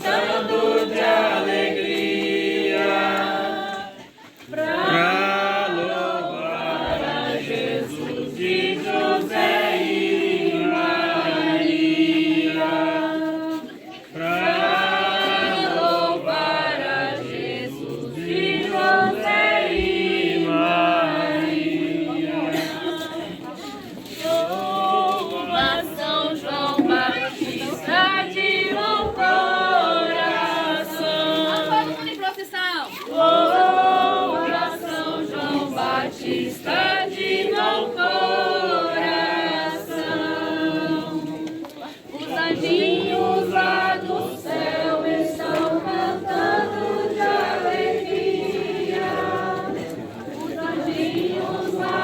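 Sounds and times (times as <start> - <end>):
group of people singing: 0.0 - 52.0.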